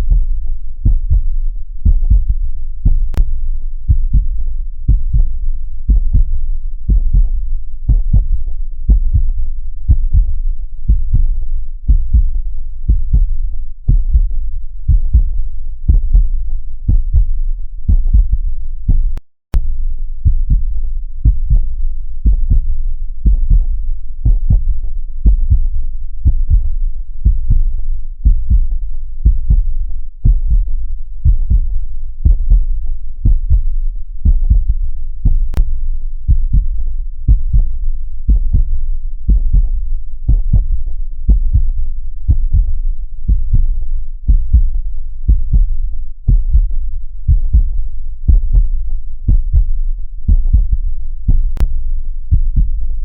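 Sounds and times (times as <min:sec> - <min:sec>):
heartbeat thumps: 0:00.0 - 0:52.9.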